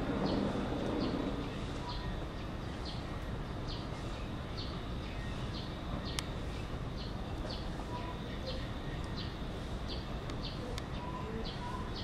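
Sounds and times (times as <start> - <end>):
outdoor background noise: 0.0 - 12.0
small bird chirping: 0.0 - 12.0.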